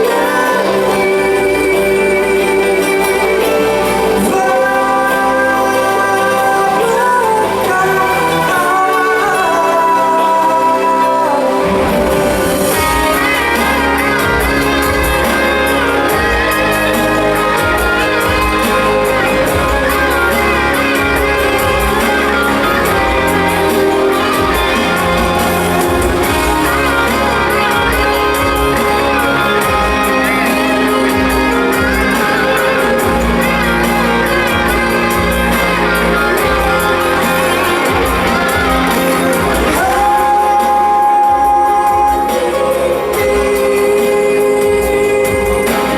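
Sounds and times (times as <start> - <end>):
held high note: 0.0 - 45.9
loud music many instruments: 0.0 - 45.9.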